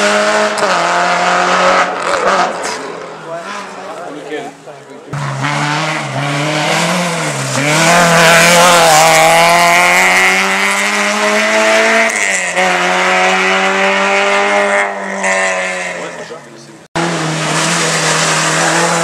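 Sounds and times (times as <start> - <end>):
rally car engine revving: 0.0 - 4.4, 5.0 - 19.0.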